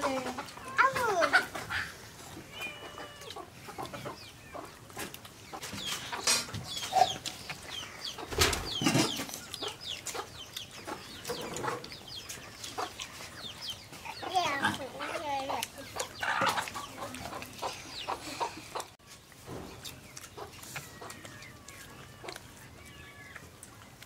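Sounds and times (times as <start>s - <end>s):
chickens clucking and chirping: 0.0s - 24.0s.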